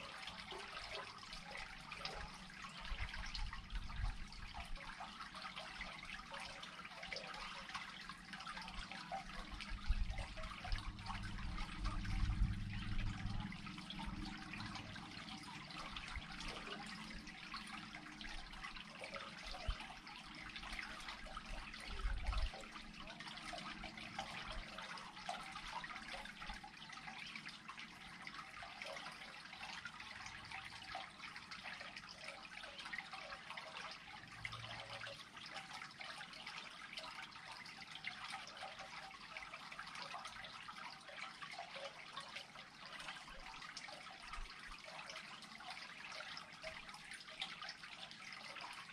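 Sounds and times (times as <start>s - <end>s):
water draining into culvert: 0.0s - 48.9s.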